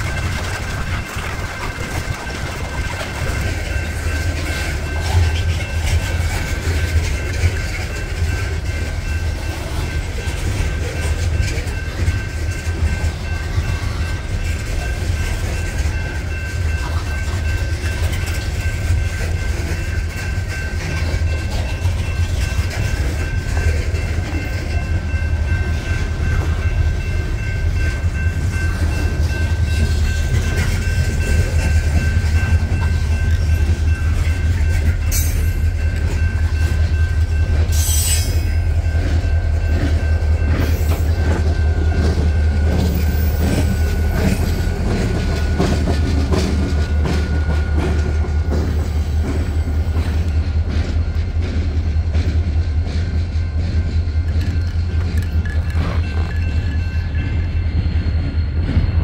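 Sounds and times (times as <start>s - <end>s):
high-pitched ringing: 0.0s - 52.1s, 53.1s - 59.0s
train wheels rumbling and clattering: 0.0s - 59.0s.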